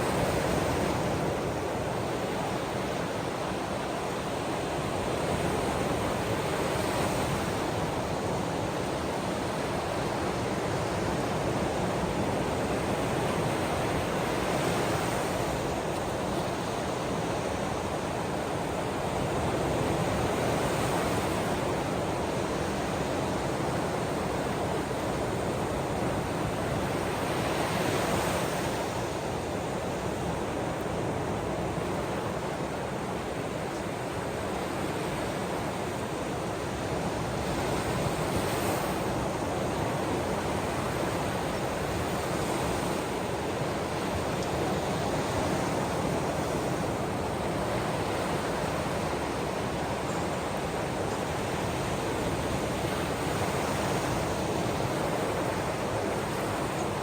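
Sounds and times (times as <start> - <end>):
ocean waves washing ashore: 0.0 - 57.0.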